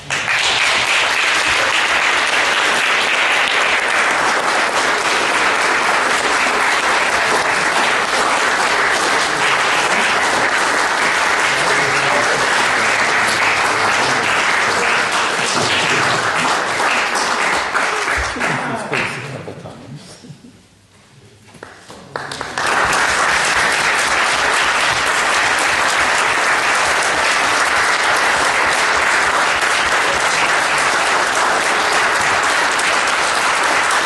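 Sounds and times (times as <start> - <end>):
audience applauding: 0.0 - 19.4, 21.6 - 34.0.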